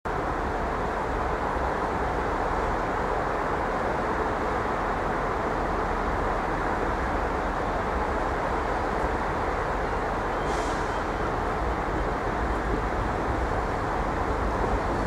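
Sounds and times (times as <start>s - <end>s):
electric train approaching: 0.1s - 15.0s
railway station background noise: 0.1s - 15.0s.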